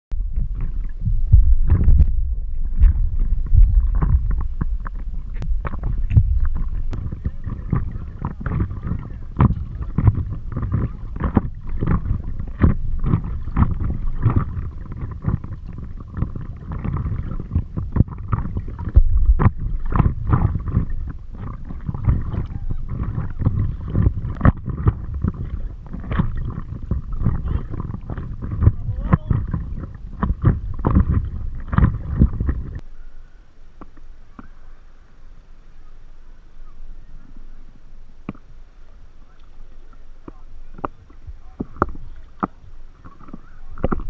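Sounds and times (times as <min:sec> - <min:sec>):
water sloshing against paddleboard: 0:00.2 - 0:44.0.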